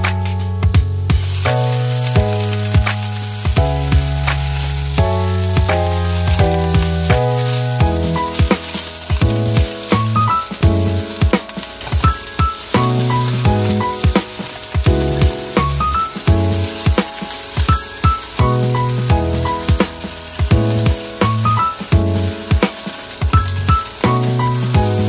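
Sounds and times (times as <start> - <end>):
background music: 0.0 - 25.0
vegetables sizzling in a wok: 1.0 - 25.0.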